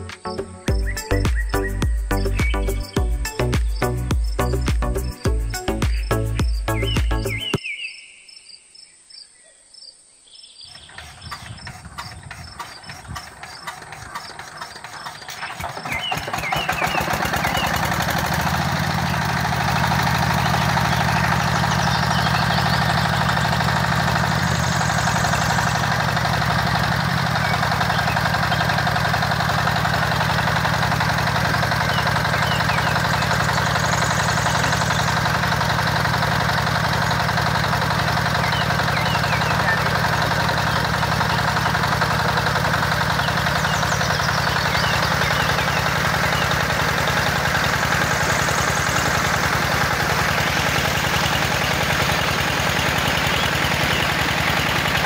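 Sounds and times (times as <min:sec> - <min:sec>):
miniature engine running: 0:10.7 - 0:55.0.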